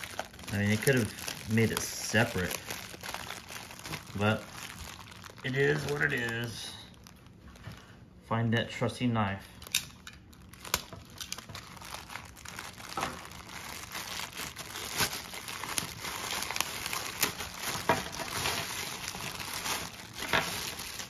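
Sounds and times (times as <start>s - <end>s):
plastic packaging crinkling: 0.0s - 8.0s, 9.5s - 21.0s.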